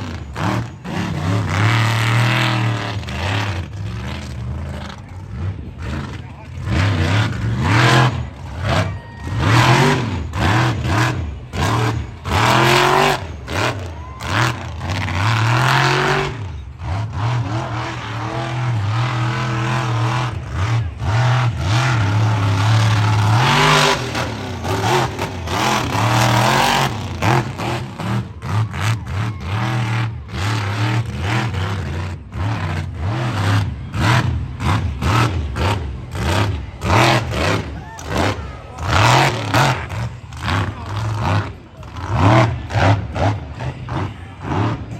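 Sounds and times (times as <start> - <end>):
vehicle engine revving: 0.0 - 44.9.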